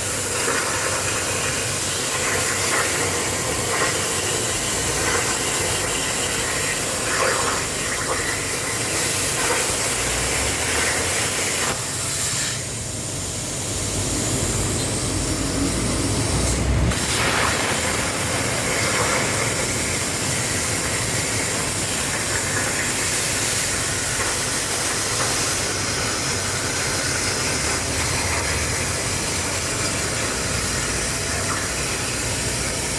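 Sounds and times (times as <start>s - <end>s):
plasma cutter arc hissing: 0.0s - 32.9s.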